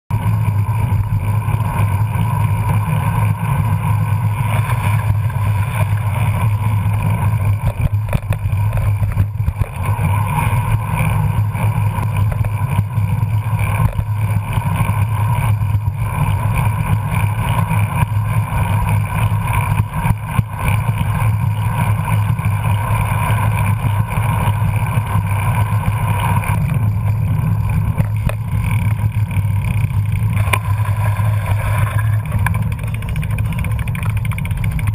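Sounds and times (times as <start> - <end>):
bicycle road rumble: 0.1 - 34.9.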